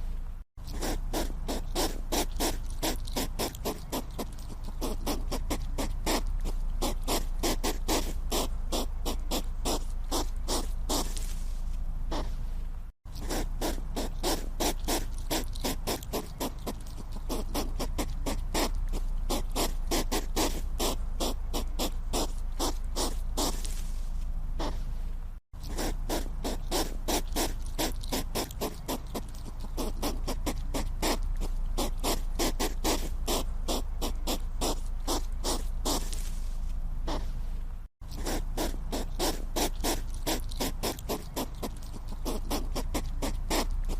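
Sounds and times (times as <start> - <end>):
low steady hum: 0.0 - 7.4, 8.1 - 19.9, 20.6 - 32.4, 33.0 - 43.9
hedgehog making short sharp sounds: 0.7 - 11.4, 13.2 - 23.9, 25.6 - 36.4, 38.1 - 43.9.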